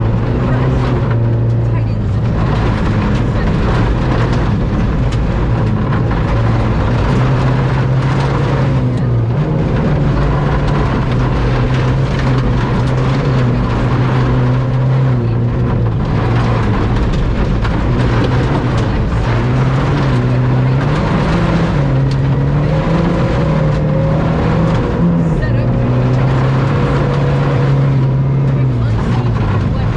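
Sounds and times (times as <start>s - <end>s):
rally car engine at full effort: 0.0s - 29.9s.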